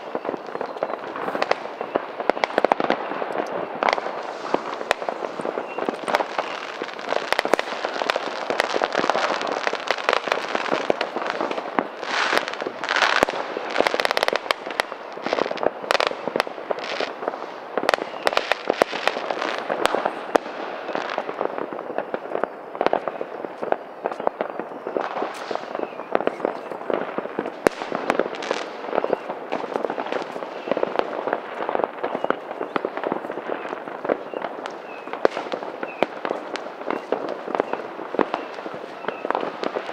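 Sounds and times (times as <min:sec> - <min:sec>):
firecrackers crackling: 0:00.0 - 0:39.9
rockets bursting with sharp bangs: 0:00.0 - 0:39.9.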